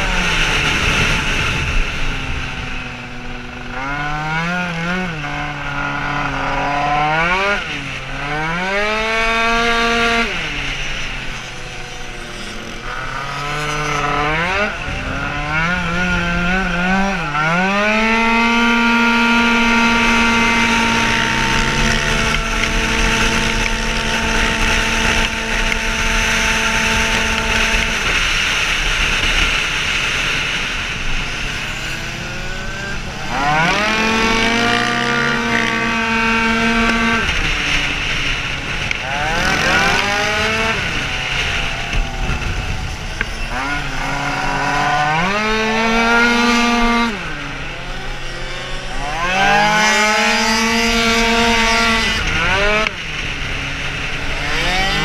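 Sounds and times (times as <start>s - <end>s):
wind rush on microphone: 0.0s - 3.7s, 8.9s - 55.0s
two-stroke scooter engine revving: 0.0s - 55.0s.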